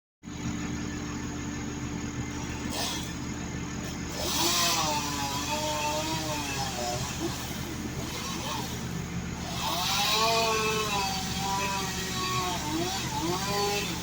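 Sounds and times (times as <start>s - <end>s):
low engine hum: 0.2s - 14.0s
high-pitched motor wavering: 0.3s - 14.0s.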